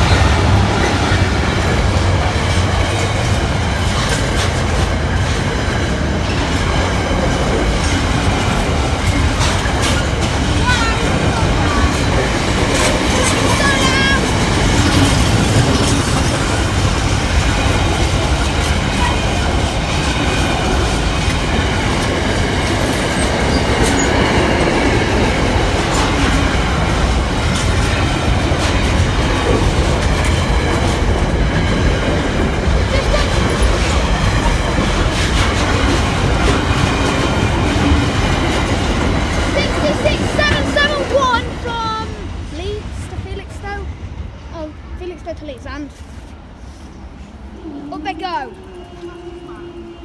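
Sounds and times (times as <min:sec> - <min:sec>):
wheels clicking over rail joints: 0:00.0 - 0:43.9
freight train wagons rolling: 0:00.0 - 0:50.0.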